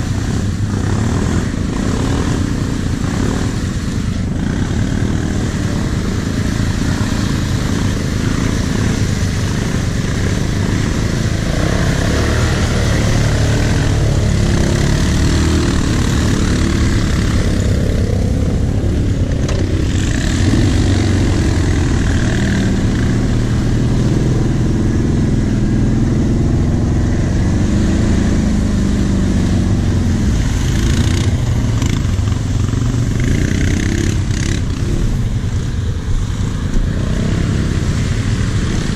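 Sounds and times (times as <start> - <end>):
quad engine running: 0.0 - 38.9.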